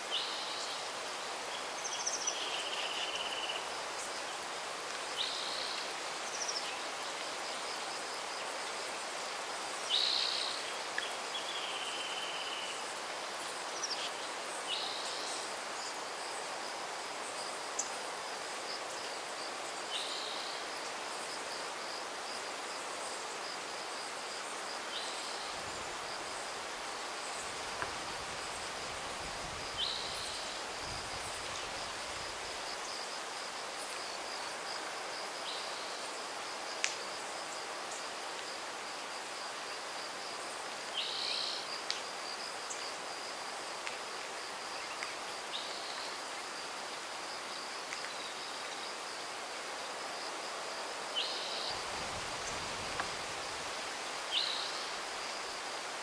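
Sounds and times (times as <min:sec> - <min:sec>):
soft even hiss: 0:00.0 - 0:56.0.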